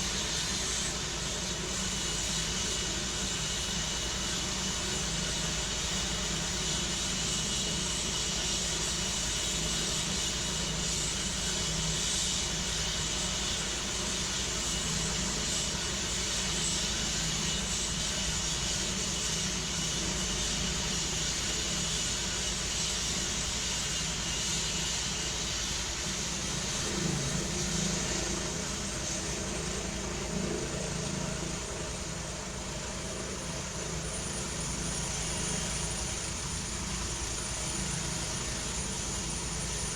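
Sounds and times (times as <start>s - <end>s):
helicopter engine running: 0.0s - 39.9s.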